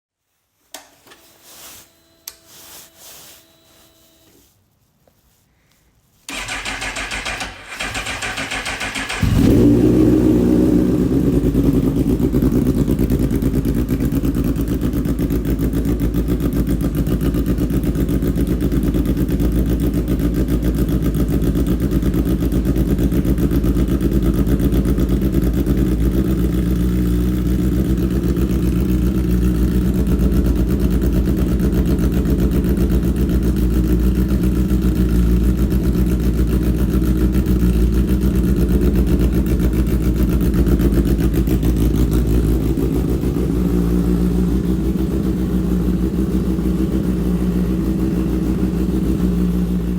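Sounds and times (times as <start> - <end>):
motorcycle engine idling: 6.3 - 49.9.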